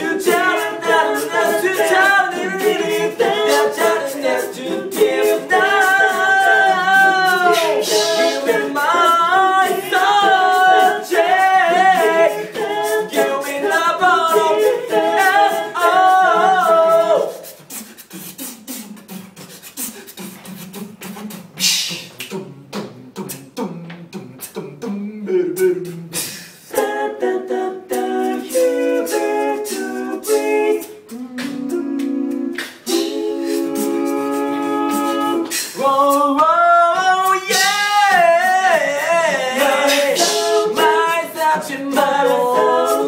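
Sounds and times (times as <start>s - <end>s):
beatboxing mouth clicks and hits: 0.2s - 11.6s, 16.6s - 27.0s, 27.9s - 43.0s.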